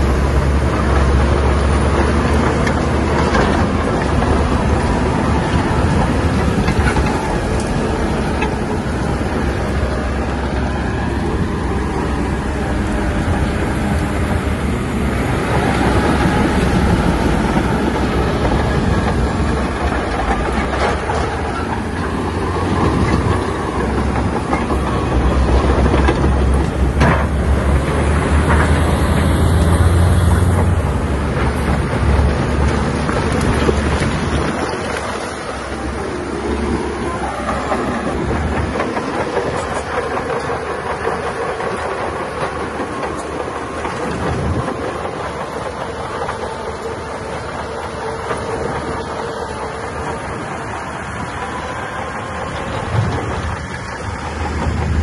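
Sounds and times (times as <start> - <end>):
crawler tracks clattering: 0.0 - 55.0
diesel engine running under load: 0.0 - 55.0.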